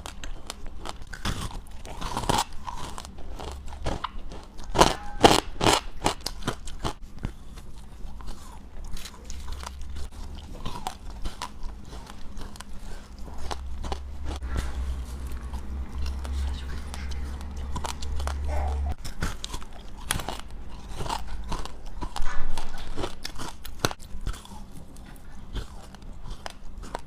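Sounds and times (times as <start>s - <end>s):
person chewing crunchy frost: 0.0s - 27.0s.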